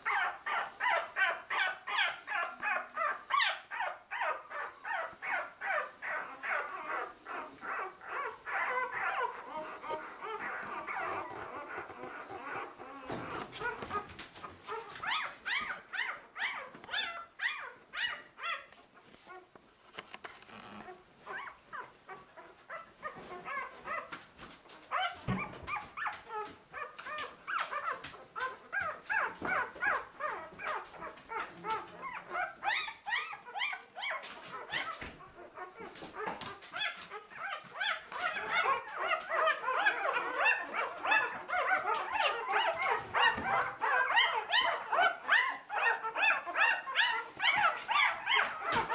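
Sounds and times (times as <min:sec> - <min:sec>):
puppies whimpering and squealing: 0:00.0 - 0:19.5, 0:20.4 - 0:48.9.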